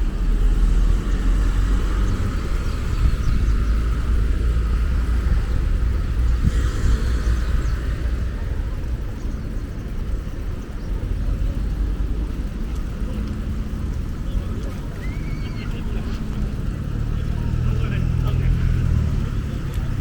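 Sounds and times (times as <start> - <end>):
bicycle rolling noise: 0.0 - 20.0
wind rumble: 0.0 - 20.0.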